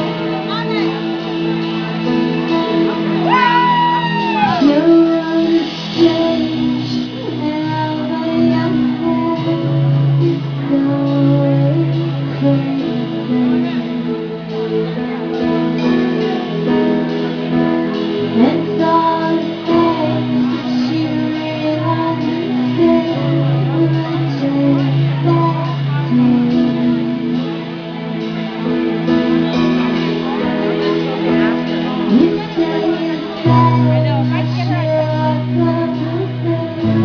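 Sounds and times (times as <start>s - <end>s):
guitar: 0.0s - 37.0s
live band playing: 0.0s - 37.0s.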